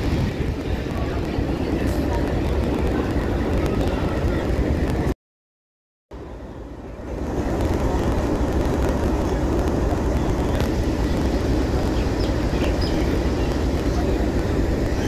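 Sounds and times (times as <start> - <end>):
train rumbling on track: 0.0 - 5.2, 6.1 - 15.0.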